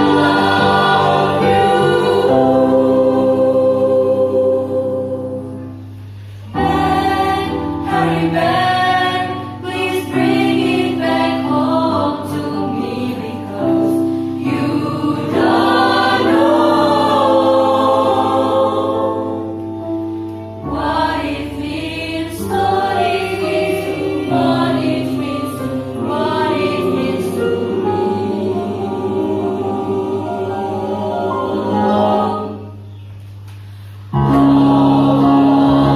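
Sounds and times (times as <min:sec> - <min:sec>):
choir singing: 0:00.0 - 0:05.8, 0:06.5 - 0:19.8, 0:20.5 - 0:32.9, 0:34.2 - 0:35.9.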